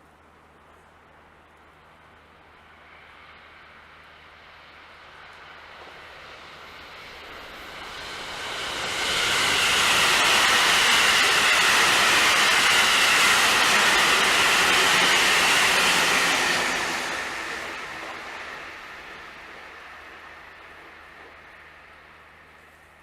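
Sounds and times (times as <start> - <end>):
train wheels on rails: 0.2 - 23.0.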